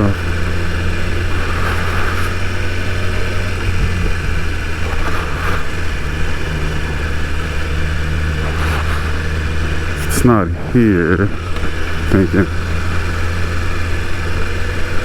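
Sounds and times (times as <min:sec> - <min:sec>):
motorcycle engine running: 0:00.0 - 0:15.0
rushing noise: 0:00.0 - 0:15.0.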